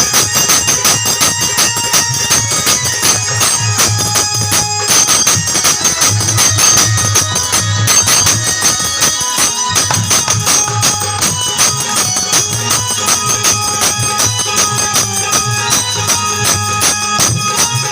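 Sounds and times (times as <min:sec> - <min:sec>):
fast hand percussion with jingles: 0:00.0 - 0:17.9
sustained melodic accompaniment: 0:00.0 - 0:17.9.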